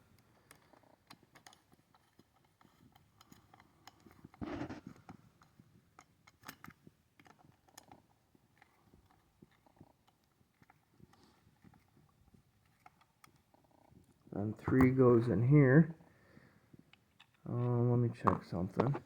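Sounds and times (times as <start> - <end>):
small metal parts clicking: 0.2 - 15.0, 16.9 - 17.4.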